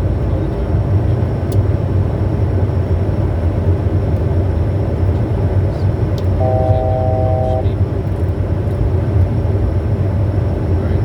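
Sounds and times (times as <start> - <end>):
jet cabin engine drone: 0.0 - 11.0.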